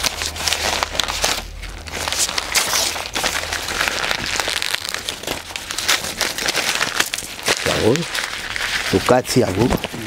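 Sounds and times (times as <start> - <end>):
paper crumpling: 0.0 - 10.0.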